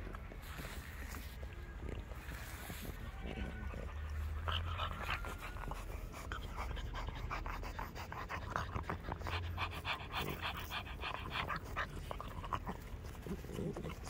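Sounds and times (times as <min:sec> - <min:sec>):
puppy panting: 0:02.2 - 0:14.0.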